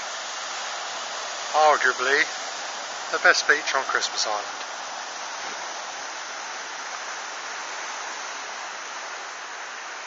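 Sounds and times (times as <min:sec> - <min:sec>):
surf washing on a beach: 0:00.0 - 0:10.0.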